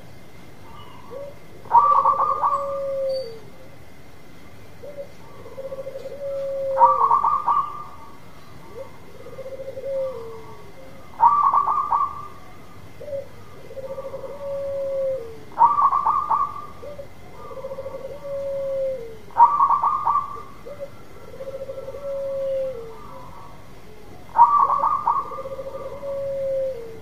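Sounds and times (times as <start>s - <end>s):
dove cooing: 0.6s - 3.8s, 4.7s - 27.0s.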